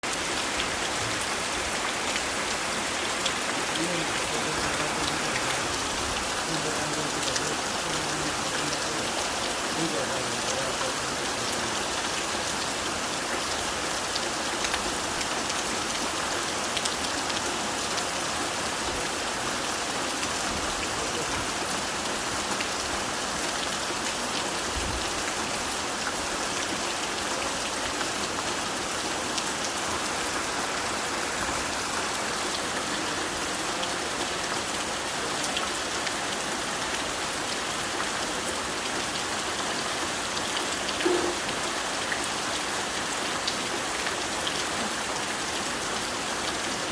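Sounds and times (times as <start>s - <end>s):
rain drumming on a tin roof: 0.0s - 46.9s.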